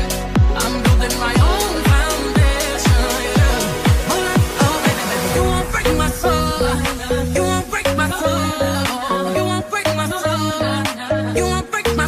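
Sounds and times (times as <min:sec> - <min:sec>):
upbeat song with steady beat: 0:00.0 - 0:12.0.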